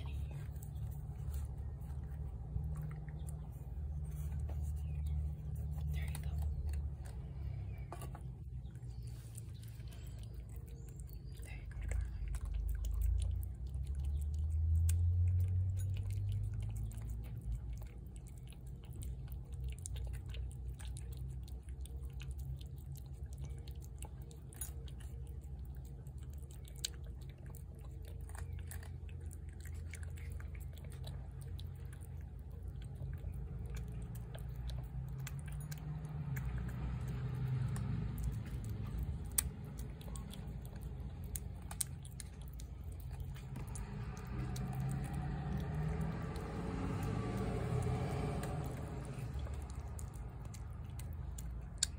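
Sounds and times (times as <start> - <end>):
cat chewing wet food: 0.0 - 51.9.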